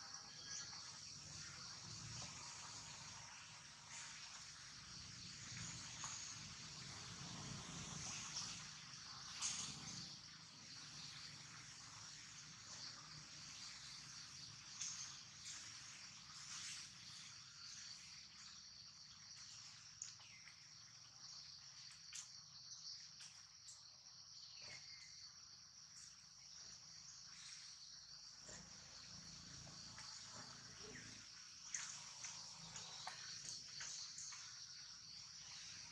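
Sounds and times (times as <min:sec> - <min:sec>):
insect chorus droning: 0:00.0 - 0:35.9.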